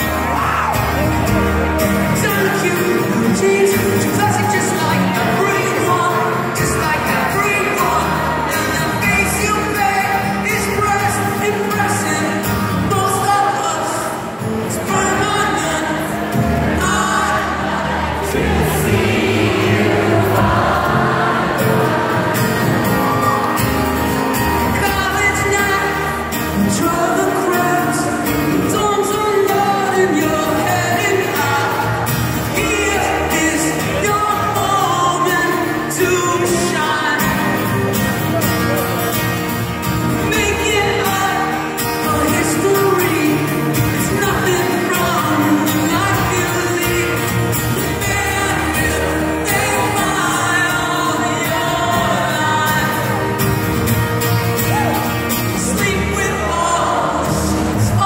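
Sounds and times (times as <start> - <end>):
man singing: 0.0 - 23.2, 24.4 - 53.7, 54.7 - 58.0
strummed acoustic guitar: 0.0 - 58.0.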